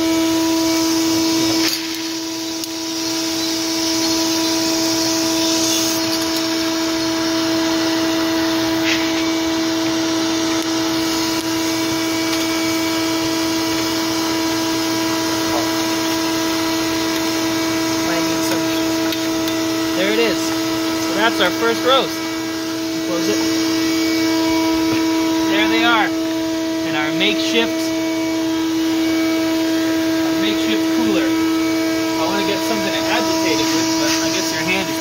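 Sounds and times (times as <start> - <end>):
shop vac motor hum: 0.0 - 35.0.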